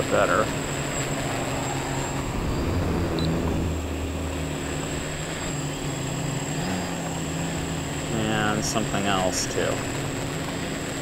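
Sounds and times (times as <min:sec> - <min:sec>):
quadcopter motors buzzing: 0:00.0 - 0:11.0.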